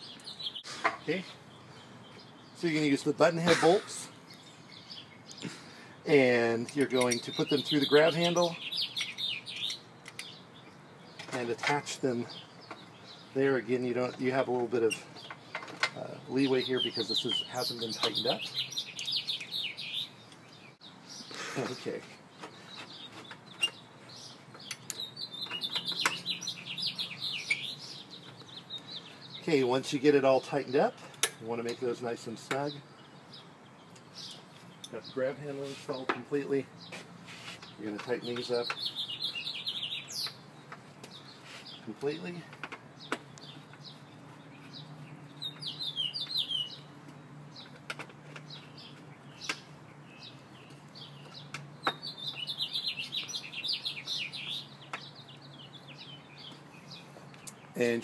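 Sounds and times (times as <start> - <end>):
small bird chirping: 0.0 - 3.2, 4.0 - 31.4, 32.6 - 58.0.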